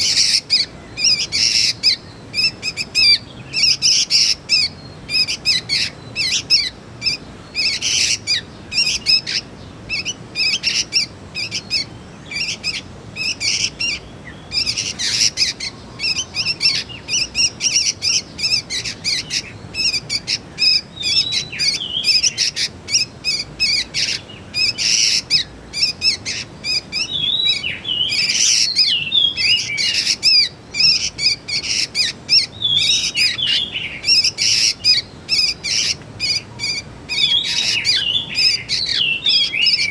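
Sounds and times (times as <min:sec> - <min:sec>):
young birds chirping: 0:00.0 - 0:39.9.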